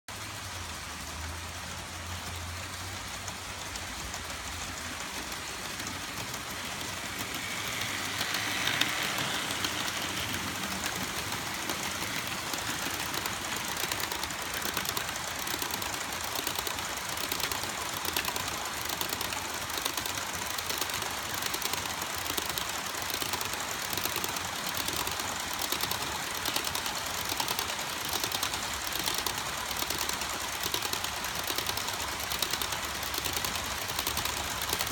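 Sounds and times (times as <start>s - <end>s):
model train wheels clattering: 0.1s - 34.9s.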